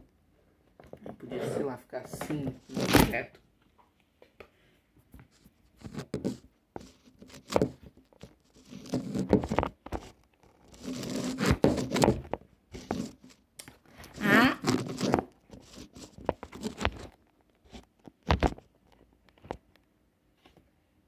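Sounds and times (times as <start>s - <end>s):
plastic toy handling rustles: 0.8s - 3.3s, 5.3s - 19.8s.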